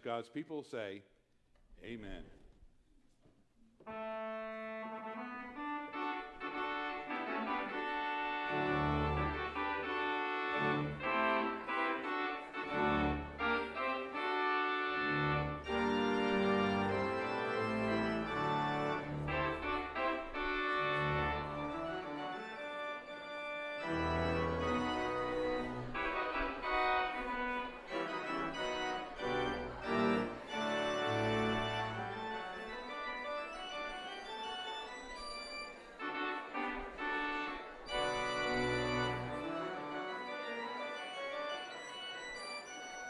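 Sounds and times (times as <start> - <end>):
church organ chords: 3.8 - 43.0.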